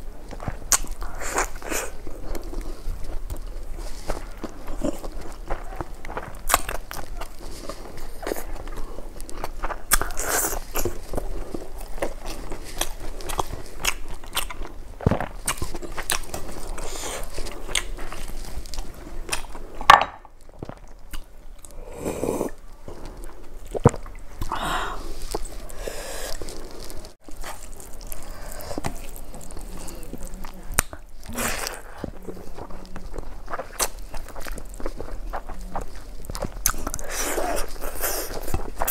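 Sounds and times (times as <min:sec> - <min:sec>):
chewing and crunching: 0:00.0 - 0:38.9.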